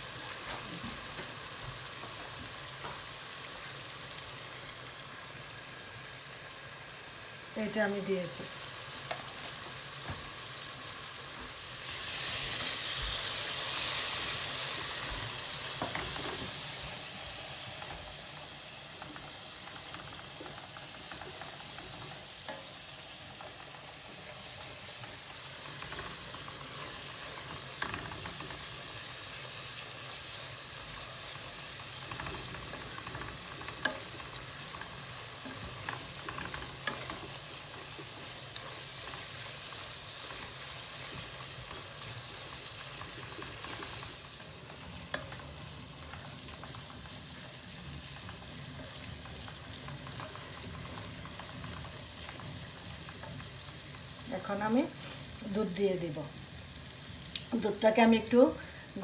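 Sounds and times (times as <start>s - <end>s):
curry sizzling in a pan: 0.0s - 59.0s.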